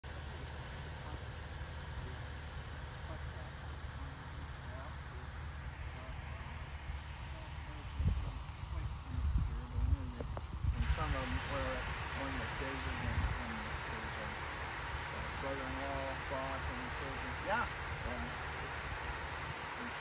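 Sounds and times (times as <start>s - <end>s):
insects trilling: 0.0s - 20.0s
low steady rumble: 0.0s - 20.0s.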